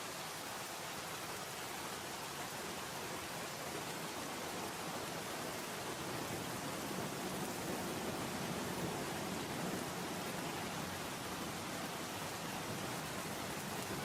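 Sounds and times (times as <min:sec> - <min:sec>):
rain on window glass: 0:00.1 - 0:14.0.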